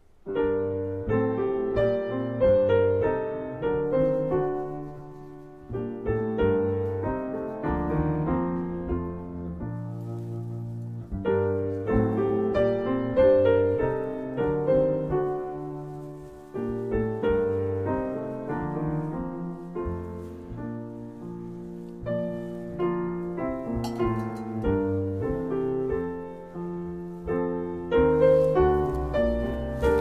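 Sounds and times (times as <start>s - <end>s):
slow quiet piano piece: 0.0s - 30.0s.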